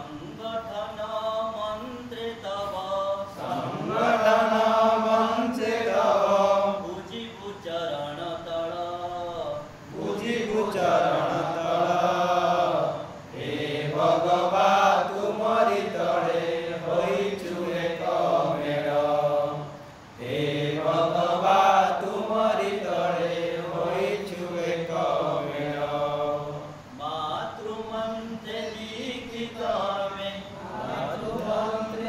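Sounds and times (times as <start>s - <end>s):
man singing unaccompanied: 0.0s - 32.0s.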